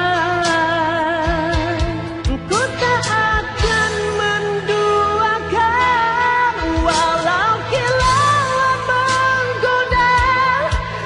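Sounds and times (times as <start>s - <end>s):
backing track with drum beat: 0.0s - 11.0s.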